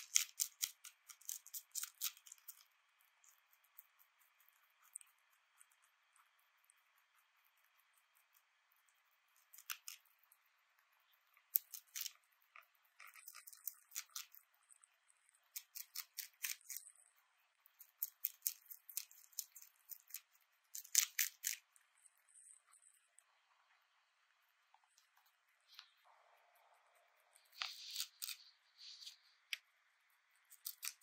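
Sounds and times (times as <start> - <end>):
rabbit crunching a leaf: 0.0 - 31.0.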